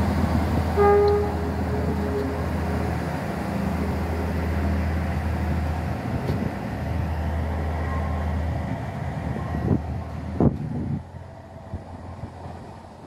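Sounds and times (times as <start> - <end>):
diesel train engine droning: 0.0 - 13.0.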